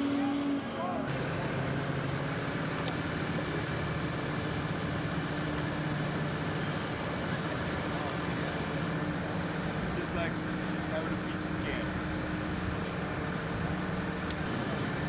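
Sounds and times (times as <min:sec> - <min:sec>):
large engine humming: 0:00.0 - 0:15.0
outdoor noise: 0:00.0 - 0:15.0.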